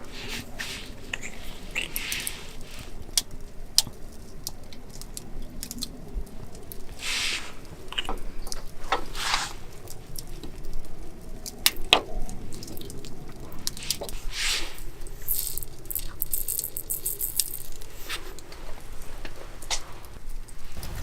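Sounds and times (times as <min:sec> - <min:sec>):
rustle: 0:00.0 - 0:21.0.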